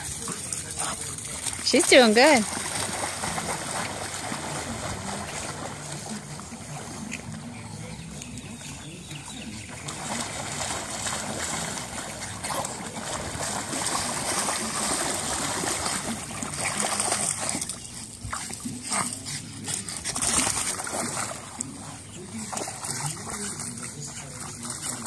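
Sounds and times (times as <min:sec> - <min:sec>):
dogs splashing through shallow water: 0:00.0 - 0:25.0.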